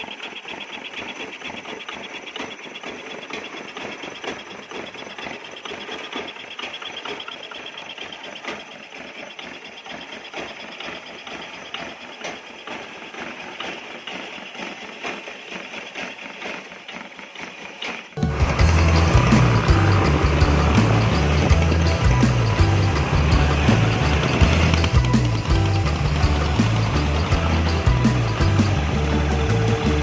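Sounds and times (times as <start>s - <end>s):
diesel engine knocking clatter: 0.0s - 30.0s.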